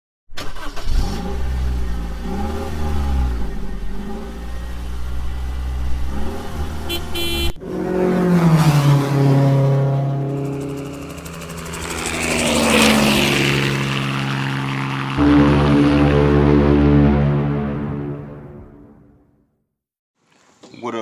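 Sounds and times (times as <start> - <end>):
vehicle engine revving: 0.5 - 19.0.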